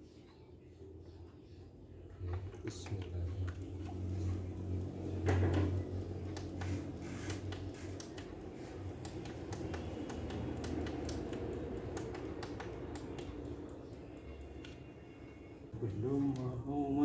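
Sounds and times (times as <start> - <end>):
low hum: 0.8 - 17.0
television power supply ticking: 2.0 - 17.0.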